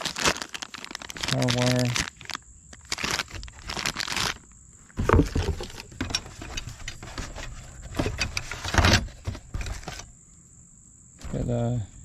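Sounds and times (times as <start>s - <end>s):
rummaging in a foam-lined box: 0.0s - 10.1s.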